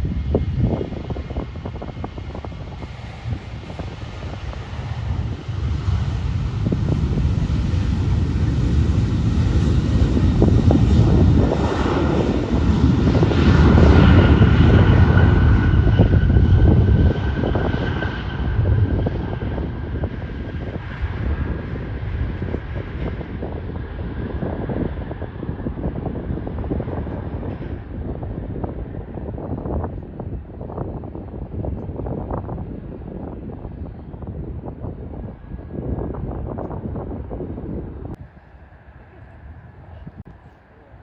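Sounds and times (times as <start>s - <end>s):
high jet engine whine: 0.0s - 41.0s
jet airliner passing by: 0.0s - 41.0s.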